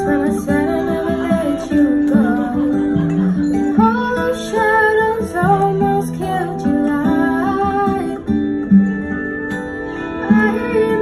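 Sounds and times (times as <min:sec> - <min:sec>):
woman singing into microphone: 0:00.0 - 0:08.6, 0:10.0 - 0:11.0
acoustic guitar: 0:00.0 - 0:11.0.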